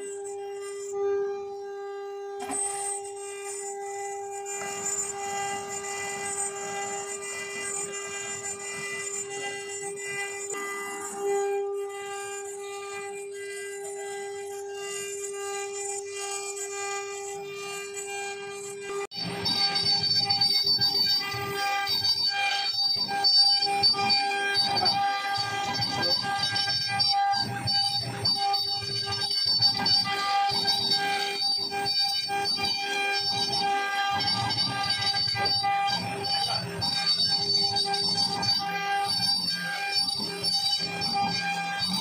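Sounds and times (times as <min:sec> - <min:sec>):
grinding of stone cutting: 0:00.0 - 0:42.0
router spindle high whine: 0:00.0 - 0:42.0.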